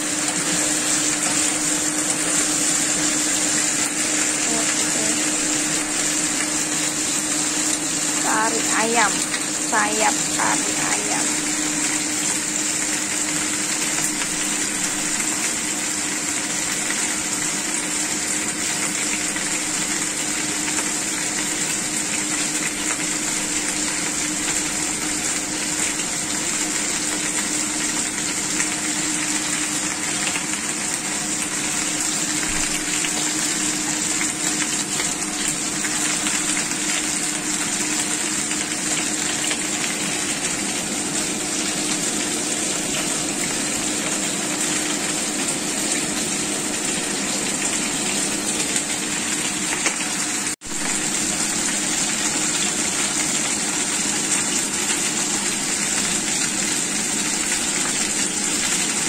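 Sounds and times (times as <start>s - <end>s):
chicken and potatoes sizzling: 0.0s - 59.0s.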